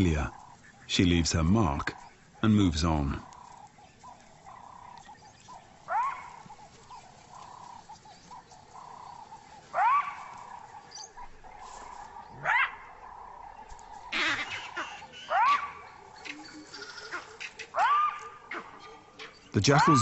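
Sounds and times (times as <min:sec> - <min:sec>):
faint chattering calls: 0:00.0 - 0:20.0
jackal barking: 0:00.0 - 0:20.0.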